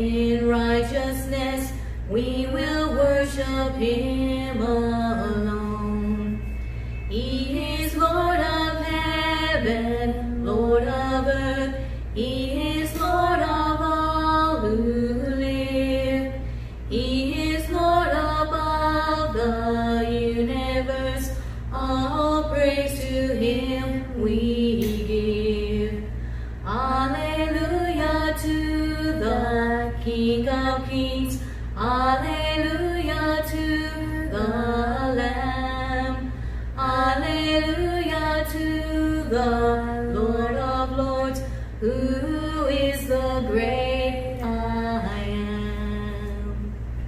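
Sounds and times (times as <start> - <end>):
two women singing: 0.0 - 46.8.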